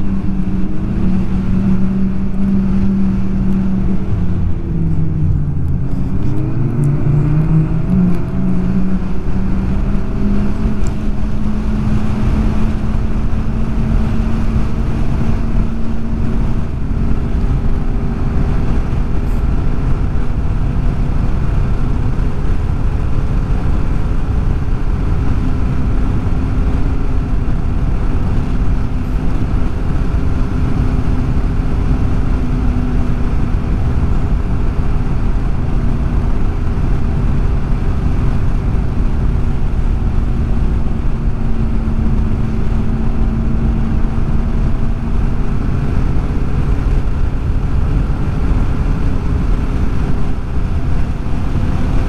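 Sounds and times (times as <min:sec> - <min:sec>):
snowmobile engine: 0:00.0 - 0:52.0.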